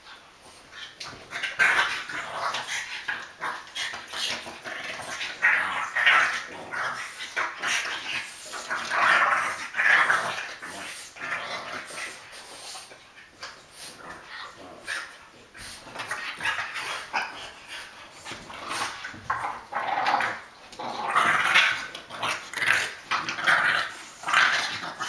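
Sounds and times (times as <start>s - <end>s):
dogs growling: 0.7s - 25.0s.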